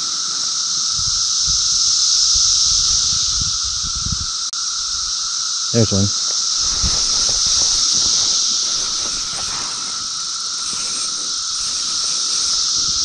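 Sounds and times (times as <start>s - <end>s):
high hiss of creek: 0.0s - 13.0s.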